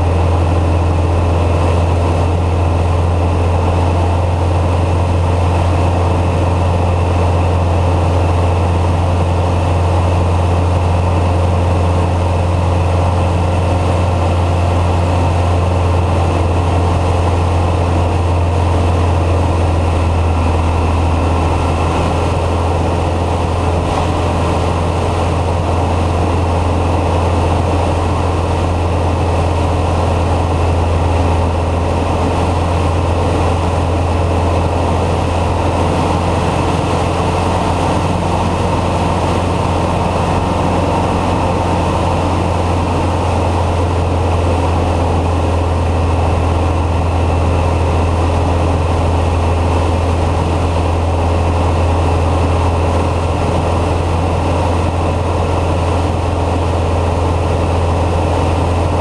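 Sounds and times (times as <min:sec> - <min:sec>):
propeller plane engine drone: 0:00.0 - 0:59.0.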